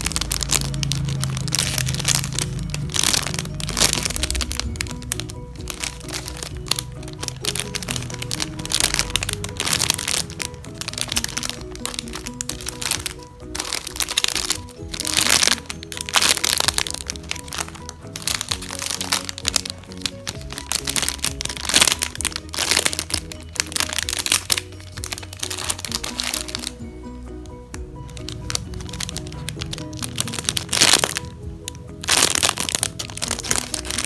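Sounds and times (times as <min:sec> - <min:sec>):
plastic crinkling: 0:00.0 - 0:26.8, 0:28.0 - 0:34.0
background music simple melody: 0:00.0 - 0:34.0.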